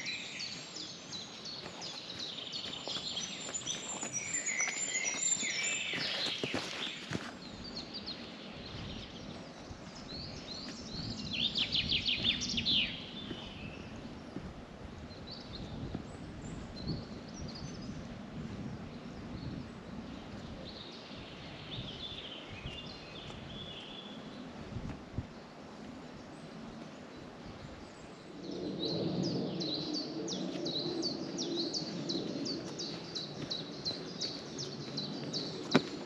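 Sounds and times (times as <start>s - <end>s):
songbirds singing: 0.0s - 36.0s.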